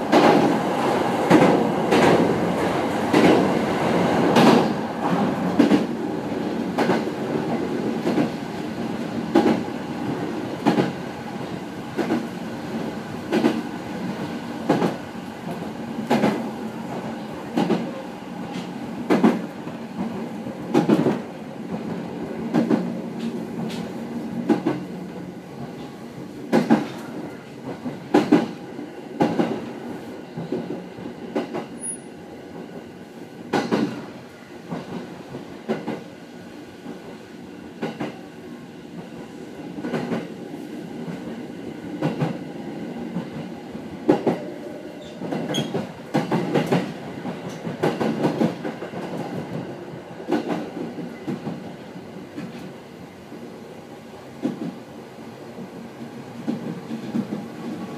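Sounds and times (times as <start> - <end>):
train rumble and hum: 0.0 - 57.9.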